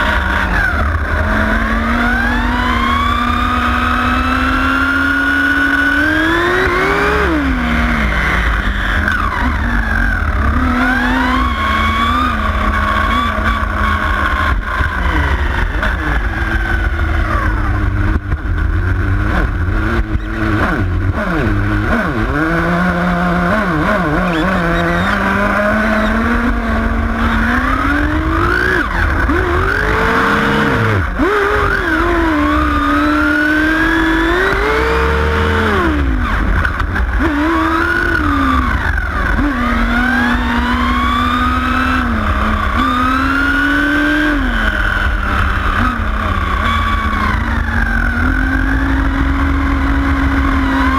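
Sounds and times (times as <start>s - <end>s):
rc car engine revving: 0.0s - 50.9s.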